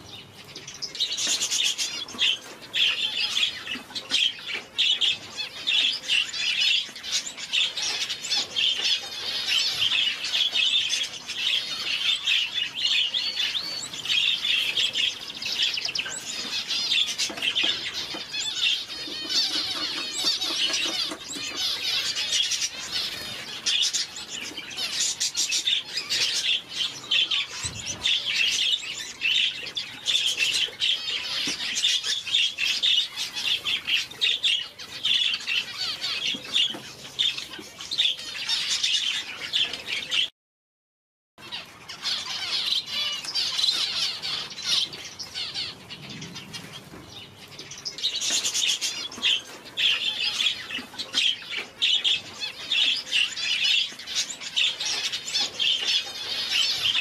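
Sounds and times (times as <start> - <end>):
finches chirping: 0.0 - 40.3, 41.4 - 57.0.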